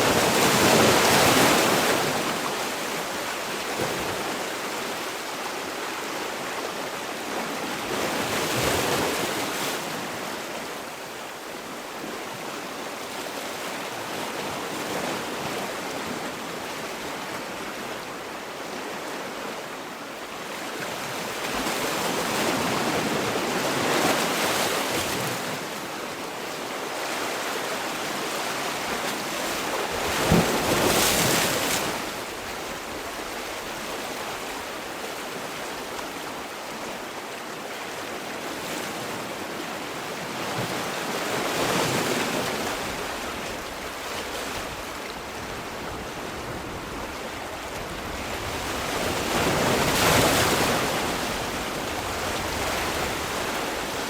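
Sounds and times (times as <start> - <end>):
sea waves washing on shore: 0.0 - 54.0.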